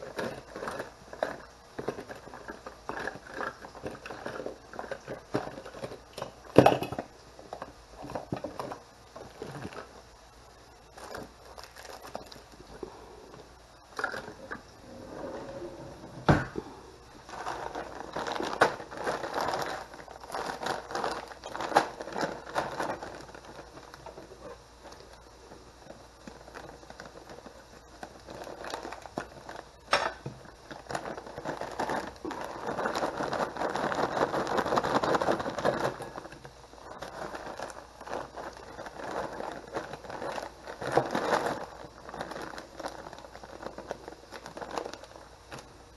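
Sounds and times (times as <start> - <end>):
plastic bags crinkling: 0.0 - 10.1, 10.8 - 45.9.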